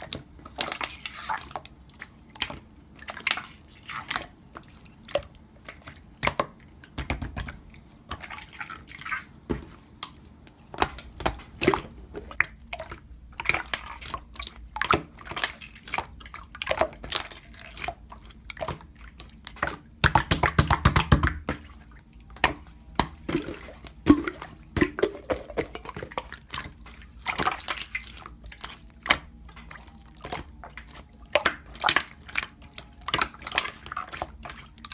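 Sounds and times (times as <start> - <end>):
wet sticky clicks and squishes: 0.0 - 9.2, 9.9 - 34.9.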